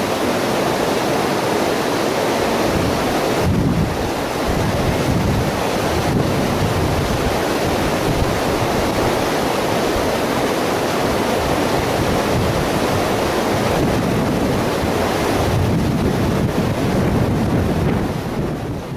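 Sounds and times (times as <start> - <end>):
wind on microphone: 2.4 - 18.9.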